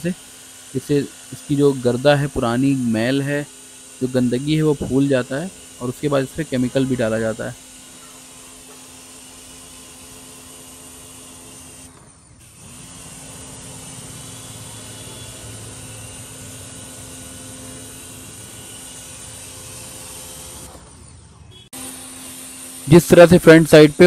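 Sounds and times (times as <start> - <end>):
water jet hissing: 0.0 - 11.9, 12.5 - 20.8, 21.8 - 24.0
pressure washer motor hum: 0.0 - 24.0.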